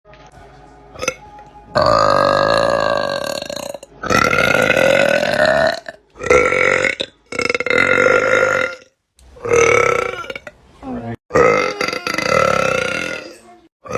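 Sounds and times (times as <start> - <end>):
person burping: 1.8 - 10.6, 11.3 - 13.9.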